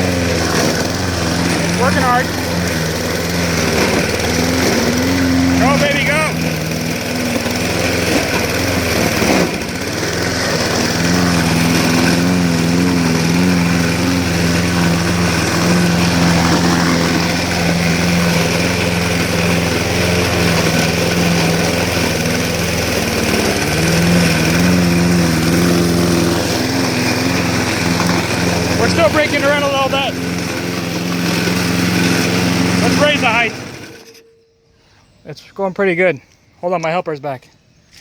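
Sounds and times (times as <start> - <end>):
lawn mower engine bogging: 0.0 - 34.9.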